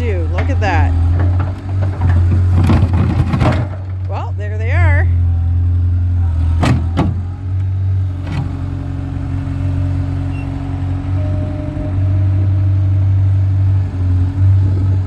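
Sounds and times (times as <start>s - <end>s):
skid steer engine under load: 0.0s - 15.0s.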